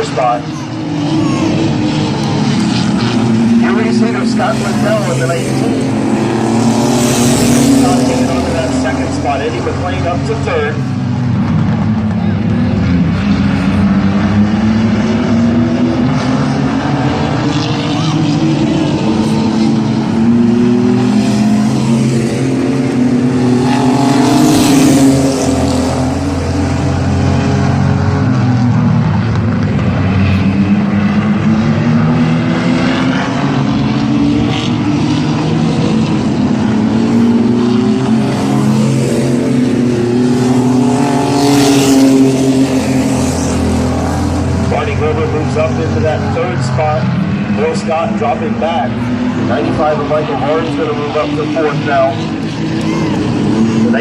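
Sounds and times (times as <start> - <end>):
racing truck engines: 0.0 - 54.0.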